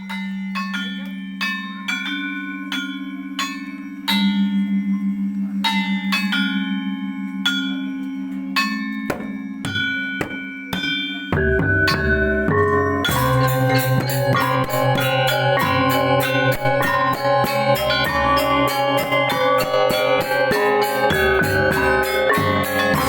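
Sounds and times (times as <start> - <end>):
bronze metallophone notes ringing: 0.0 - 23.0
low pulsing bronze hum: 2.4 - 23.0.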